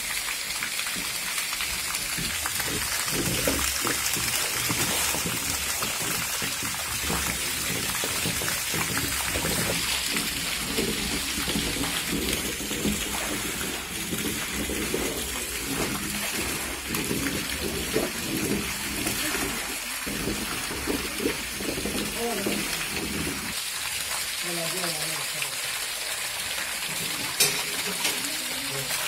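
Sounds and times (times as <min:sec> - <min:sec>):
juice gushing and splashing into pan: 0:00.0 - 0:29.0.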